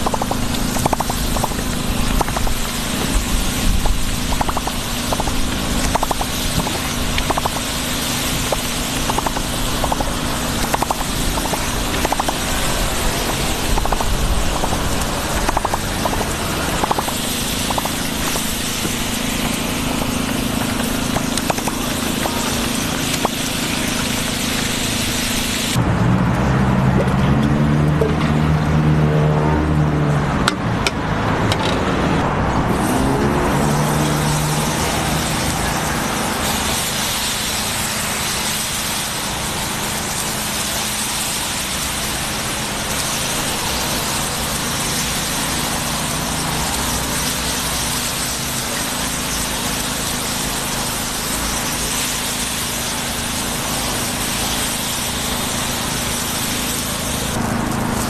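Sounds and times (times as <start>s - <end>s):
street background noise: 0.0s - 58.0s
vehicle engine passing: 0.0s - 58.0s.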